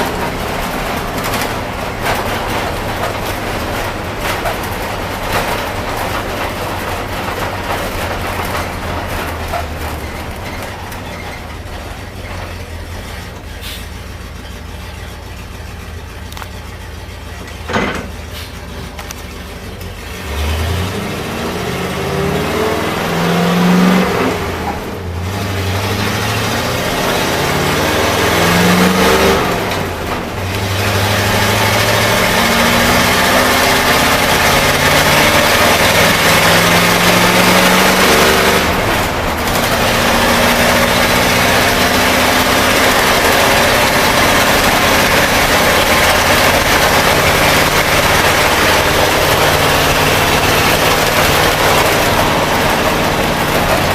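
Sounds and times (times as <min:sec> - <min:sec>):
bus engine shifting gears: 0:00.0 - 0:53.9.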